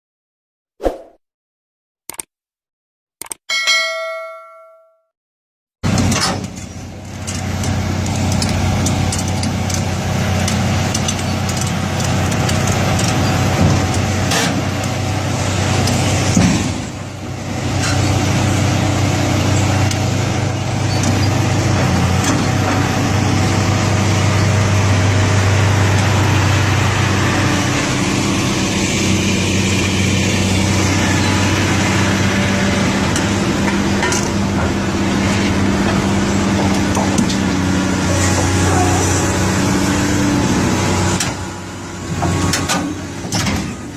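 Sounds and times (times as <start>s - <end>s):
excavator diesel engine running: 5.8s - 43.9s.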